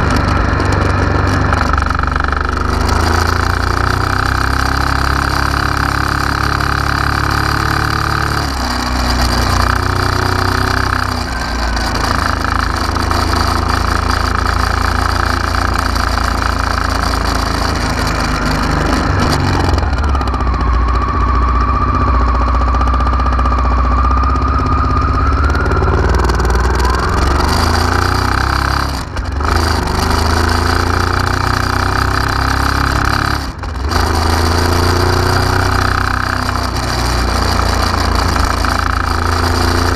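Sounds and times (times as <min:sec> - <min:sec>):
motorcycle engine idling: 0:00.0 - 0:32.2
steady high whine: 0:00.0 - 0:39.9.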